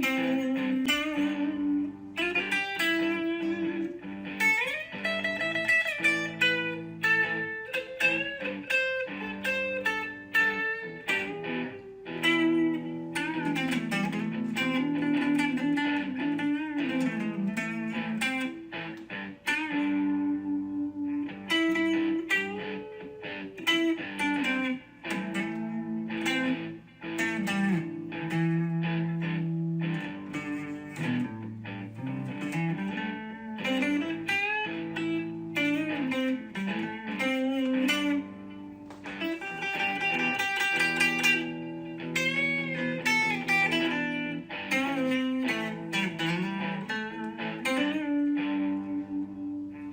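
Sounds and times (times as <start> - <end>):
guitar background music: 0.0 - 49.9.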